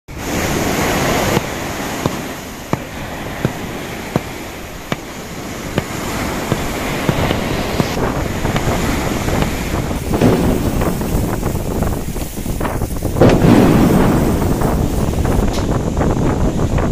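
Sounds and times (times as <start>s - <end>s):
waves breaking on a beach: 0.1s - 16.9s
wind buffeting the microphone: 0.1s - 16.9s.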